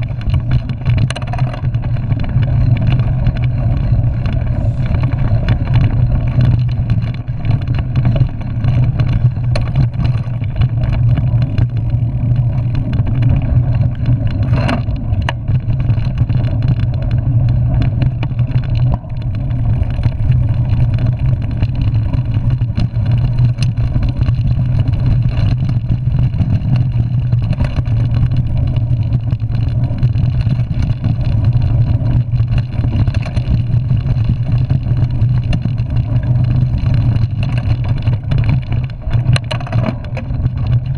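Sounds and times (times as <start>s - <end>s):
bike knocks and rattles from bumps: 0.0s - 40.9s
rumble of wind and trail vibration: 0.0s - 40.9s.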